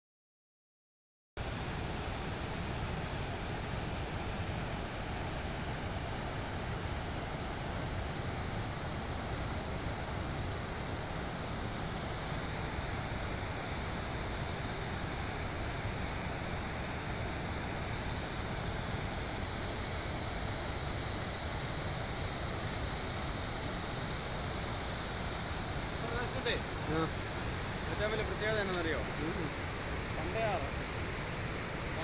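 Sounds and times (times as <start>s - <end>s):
waterfall rushing: 1.6s - 32.0s.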